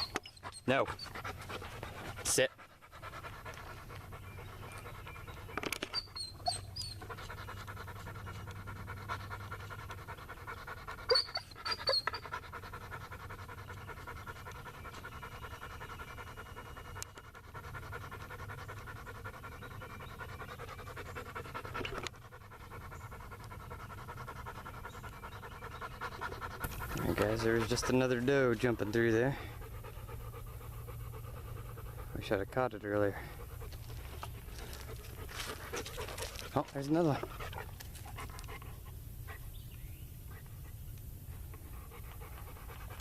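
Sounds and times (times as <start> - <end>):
dog panting: 0.0 - 43.0.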